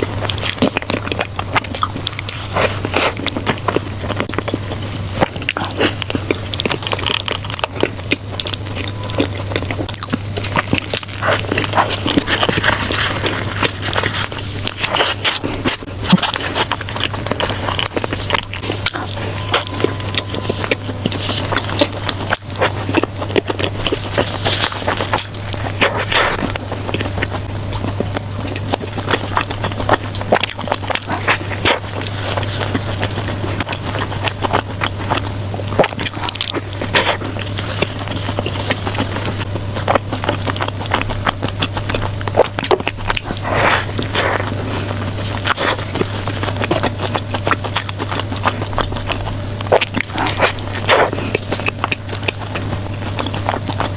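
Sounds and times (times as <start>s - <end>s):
biting and chewing: 0.0s - 53.9s
steady low hum: 0.0s - 53.9s.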